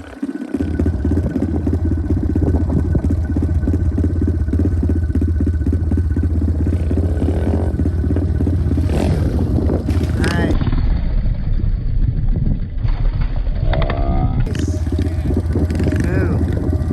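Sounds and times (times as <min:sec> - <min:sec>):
pit bike engine running: 0:00.0 - 0:16.9.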